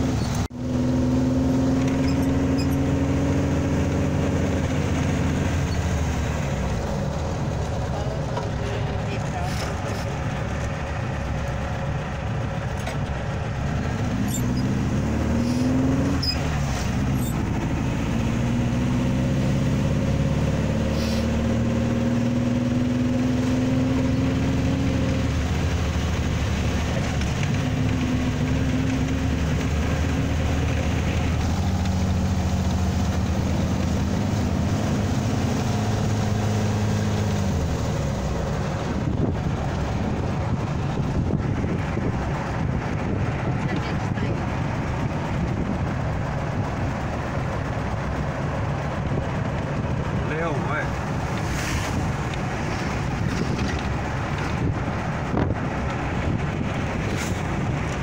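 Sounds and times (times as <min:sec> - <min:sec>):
buggy engine accelerating: 0:00.0 - 0:58.0.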